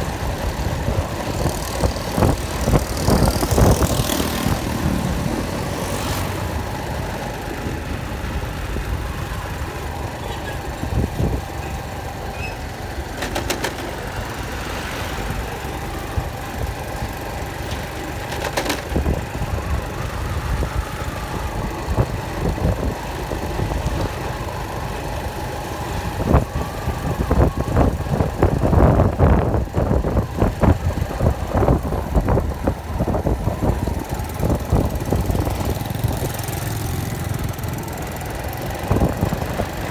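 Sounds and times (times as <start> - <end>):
engine running at low revs: 0.0 - 39.9.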